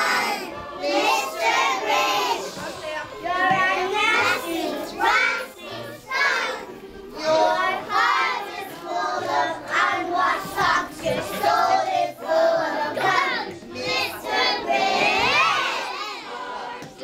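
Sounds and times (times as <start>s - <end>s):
young children singing: 0.0s - 17.0s.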